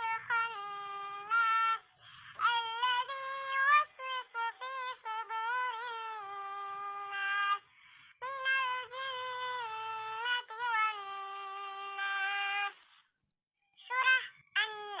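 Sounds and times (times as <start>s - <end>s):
synthetic voice chanting: 0.0s - 13.0s, 13.8s - 15.0s.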